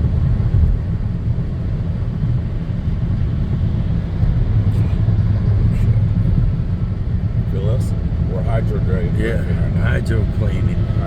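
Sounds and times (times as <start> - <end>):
car tyre and engine rumble: 0.0 - 11.0.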